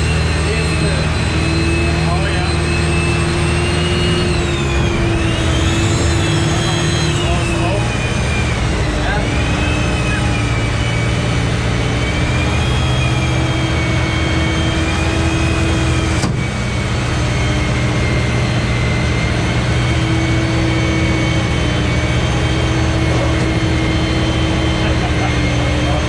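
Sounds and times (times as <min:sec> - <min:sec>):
vehicle engine running under load: 0:00.0 - 0:26.0.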